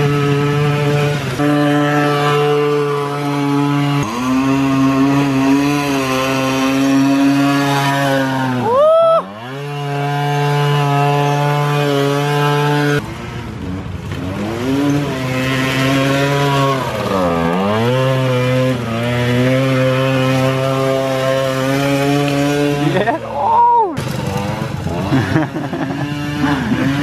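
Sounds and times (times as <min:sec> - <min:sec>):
moped engine buzzing: 0:00.0 - 0:27.0.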